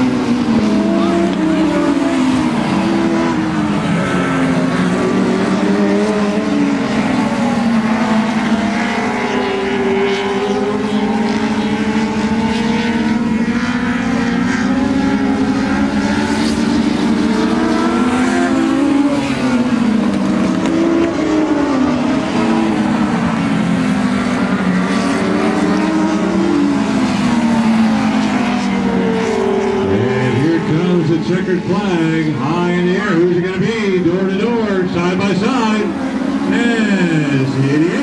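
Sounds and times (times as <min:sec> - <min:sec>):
race car engines: 0:00.0 - 0:38.0.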